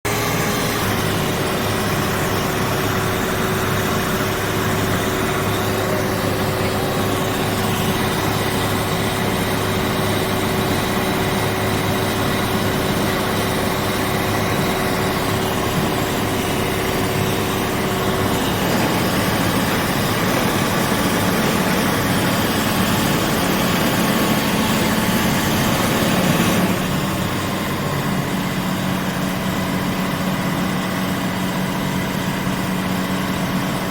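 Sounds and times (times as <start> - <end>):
motorboat engine running: 0.0 - 33.9.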